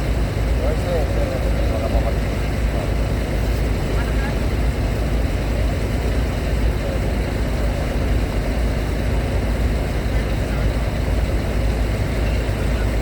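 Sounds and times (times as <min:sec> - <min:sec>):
heavy engines idling: 0:00.0 - 0:13.0.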